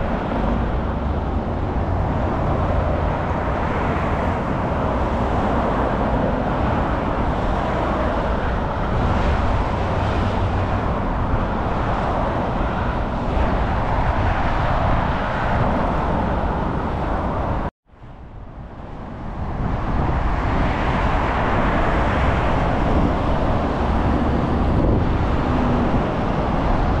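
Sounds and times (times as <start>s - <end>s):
motorway traffic passing: 0.0s - 27.0s.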